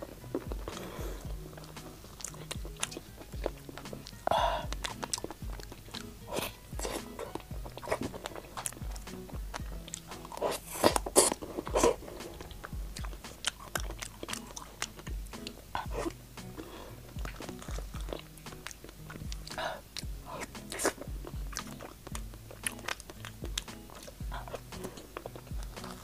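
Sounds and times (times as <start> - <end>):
chewing and wet mouth sounds: 0.0 - 26.0
soft background music: 0.0 - 26.0.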